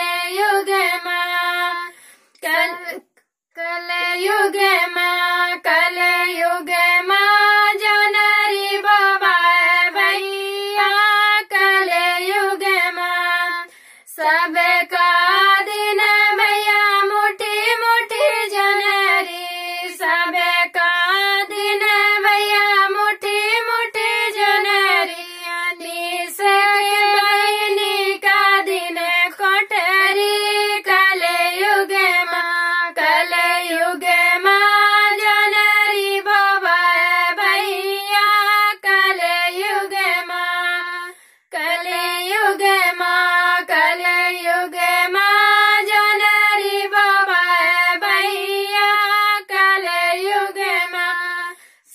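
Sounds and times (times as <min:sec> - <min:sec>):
women singing without instruments: 0:00.0 - 0:51.9.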